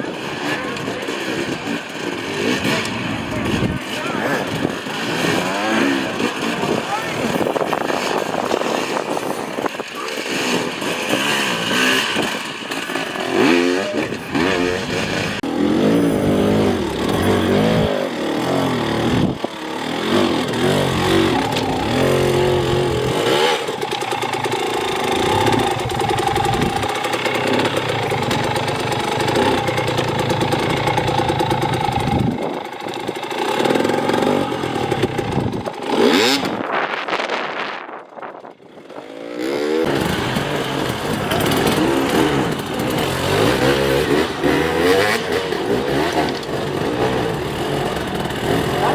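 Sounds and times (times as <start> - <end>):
dirt bike engine revving: 0.0 - 38.0, 38.6 - 48.9.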